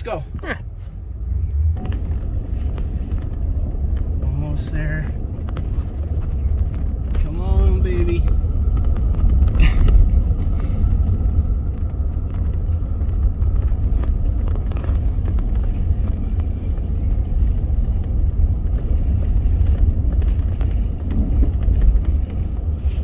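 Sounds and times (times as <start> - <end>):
truck engine and tyres rumbling: 0.0 - 23.0.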